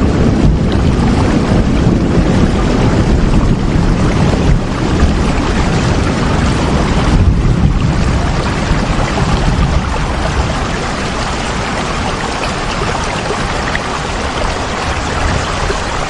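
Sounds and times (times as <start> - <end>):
low rumble: 0.0 - 16.0
steady rain hiss: 0.0 - 16.0.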